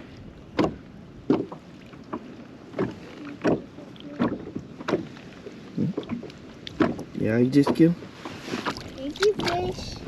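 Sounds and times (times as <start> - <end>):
water slapping against kayak hull: 0.0 - 10.0.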